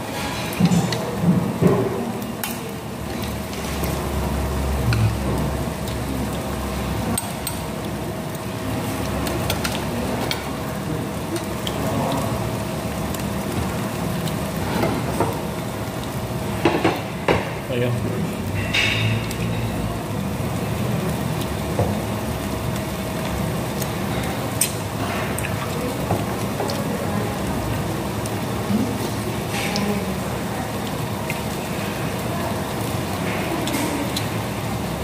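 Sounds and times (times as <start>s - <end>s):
meat sizzling on grill pan: 0.1s - 35.0s.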